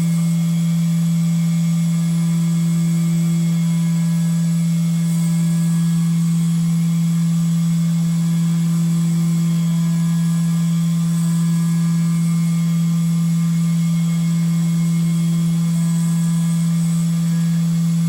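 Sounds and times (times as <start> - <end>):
milling machine humming: 0.0 - 18.0.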